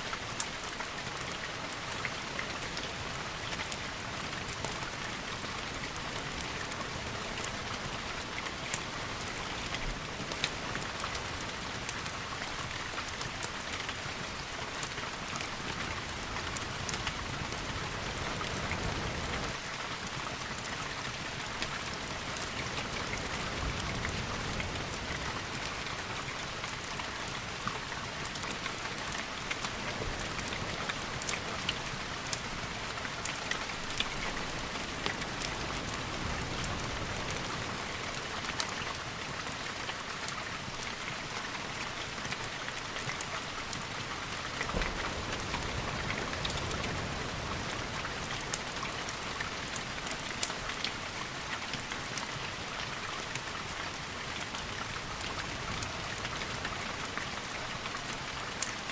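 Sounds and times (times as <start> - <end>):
steady rain with ticks: 0.0 - 58.9.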